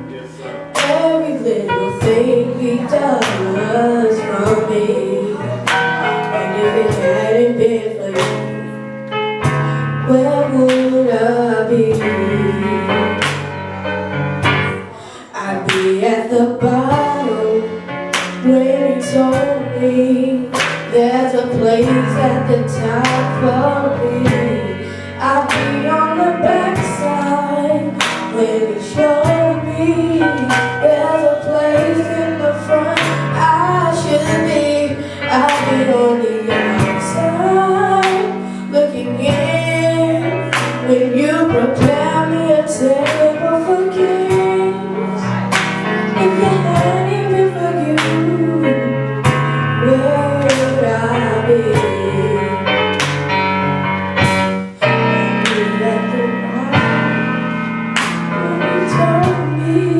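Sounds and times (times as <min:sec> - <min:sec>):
band playing: 0:00.0 - 0:59.9.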